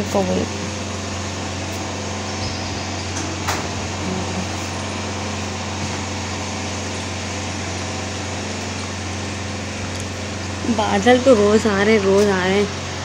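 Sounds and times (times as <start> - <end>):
air conditioner unit humming: 0.0 - 13.0.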